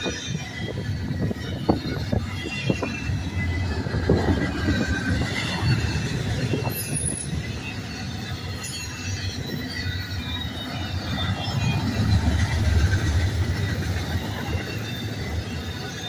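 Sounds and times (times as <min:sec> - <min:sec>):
high-pitched wheel squeal: 0:00.0 - 0:16.0
train wheels rumbling on rail: 0:00.0 - 0:16.0.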